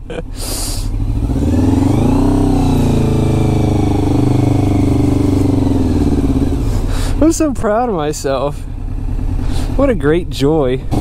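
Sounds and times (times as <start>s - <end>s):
motorcycle engine revving: 0.2s - 11.0s.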